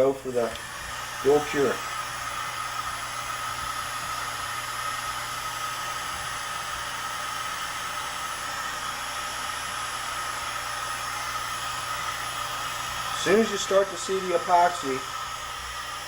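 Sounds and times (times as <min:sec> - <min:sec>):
heat gun blowing air: 0:00.0 - 0:16.0.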